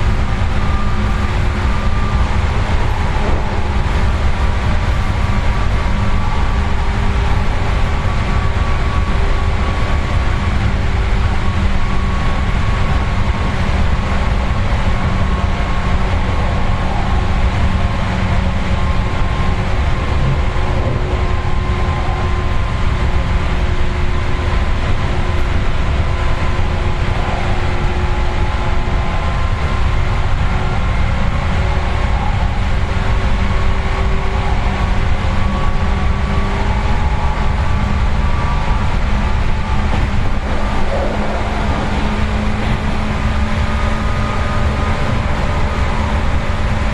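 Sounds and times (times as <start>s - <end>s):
traction motor and gear hum: 0.0s - 46.9s
train wheels on rail: 0.0s - 46.9s.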